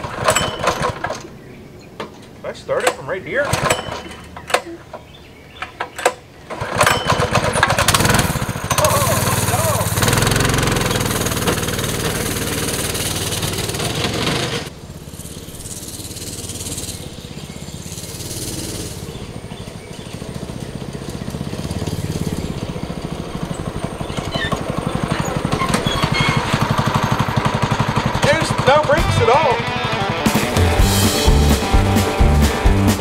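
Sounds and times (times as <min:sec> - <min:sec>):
go-kart engine running: 0:00.0 - 0:01.5, 0:06.4 - 0:33.0.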